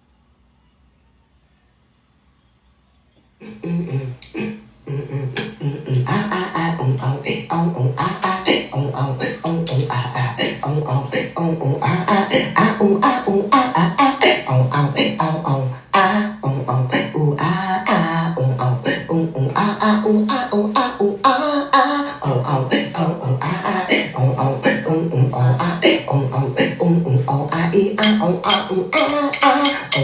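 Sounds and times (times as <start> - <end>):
beatboxing beat: 3.4 - 30.0.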